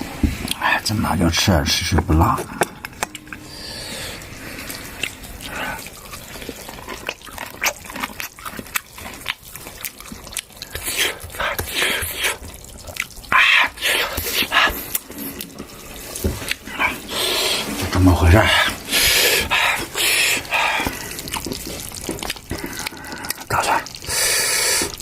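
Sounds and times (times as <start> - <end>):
water splashing and dripping: 0.0 - 25.0.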